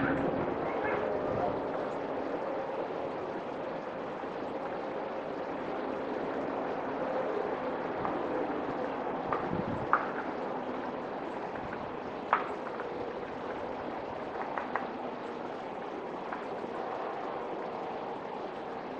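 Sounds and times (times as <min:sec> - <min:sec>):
steady background hiss: 0:00.0 - 0:18.9.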